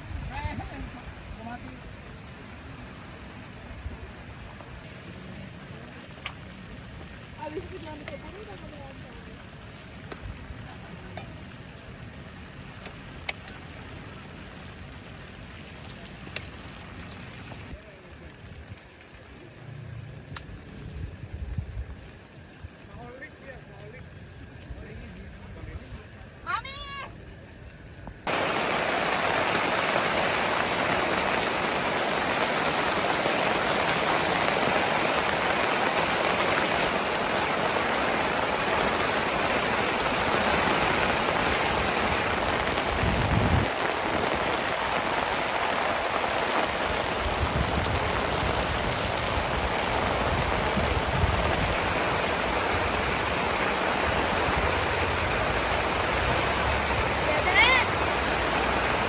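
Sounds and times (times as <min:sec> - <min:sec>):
heavy rain falling: 0:00.0 - 0:20.2, 0:28.2 - 0:59.0.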